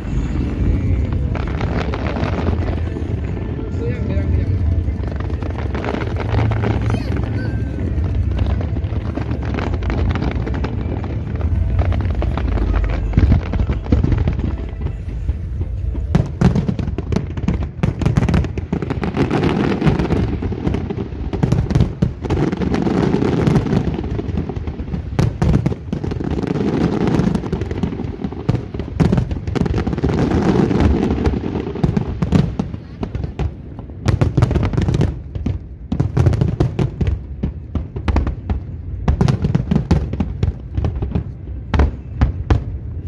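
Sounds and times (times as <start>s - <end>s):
fireworks bangs and crackling: 0.0s - 43.0s
low rumble: 0.0s - 43.0s.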